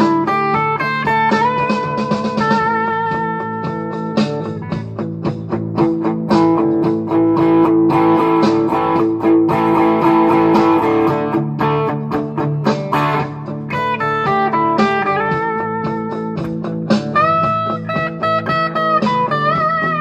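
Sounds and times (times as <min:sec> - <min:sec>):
electric guitar melody: 0:00.0 - 0:20.0.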